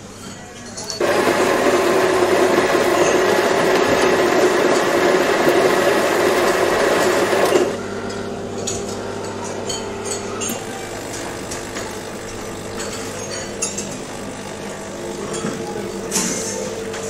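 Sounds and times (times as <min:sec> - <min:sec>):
espresso machine pump buzz: 0:01.0 - 0:17.0.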